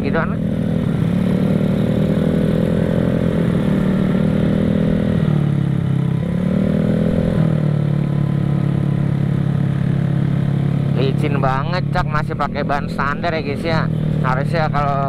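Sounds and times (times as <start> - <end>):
scooter engine on wet road: 0.0 - 15.0.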